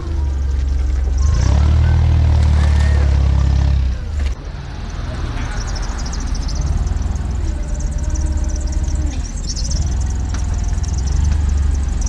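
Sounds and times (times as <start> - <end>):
forklift engine humming: 0.0 - 12.0.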